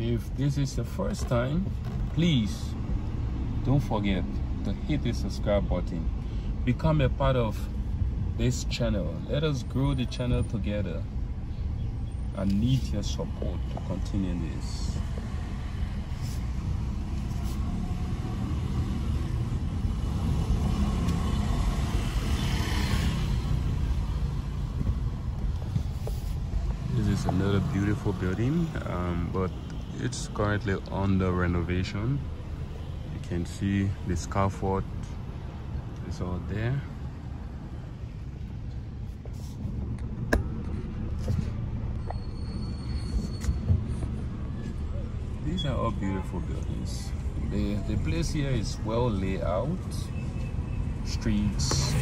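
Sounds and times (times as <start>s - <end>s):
car road noise inside cabin: 0.0s - 5.8s, 6.6s - 50.1s.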